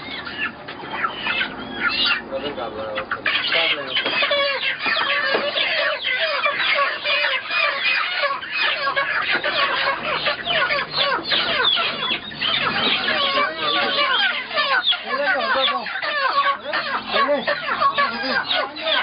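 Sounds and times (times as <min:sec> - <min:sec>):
chickens squawking and clucking: 0:00.0 - 0:19.0.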